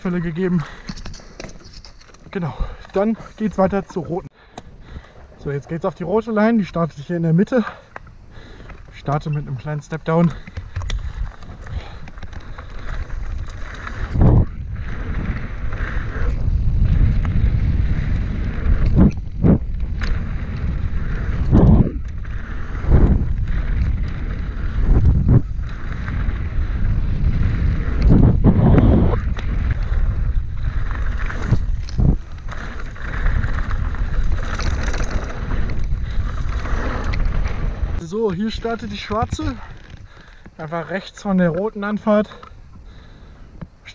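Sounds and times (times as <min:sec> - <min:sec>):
tyres rolling over dirt: 0:00.0 - 0:43.7
wind buffeting microphone: 0:07.9 - 0:43.9.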